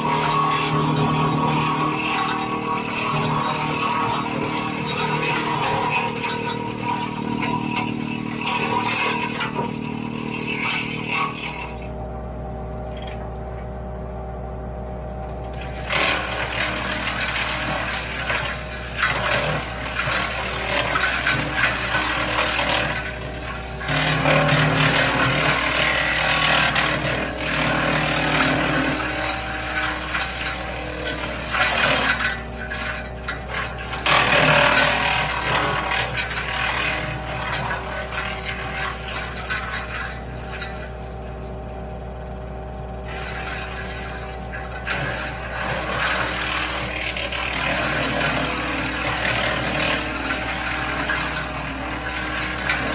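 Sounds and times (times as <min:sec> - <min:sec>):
wood chipper crackling clatter: 0:00.0 - 0:52.9.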